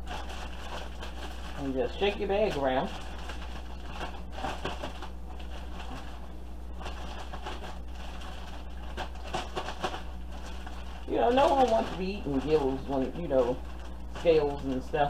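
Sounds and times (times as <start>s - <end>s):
dry coating rustling in bag: 0.0s - 15.0s
plastic bag crinkling: 0.0s - 15.0s.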